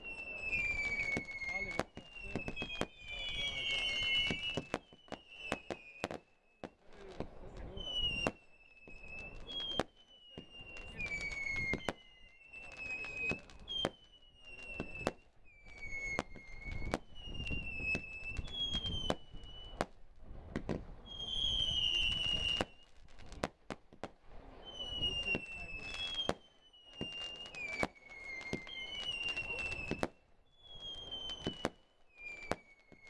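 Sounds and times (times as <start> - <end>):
firework whistles: 0.0 - 33.0.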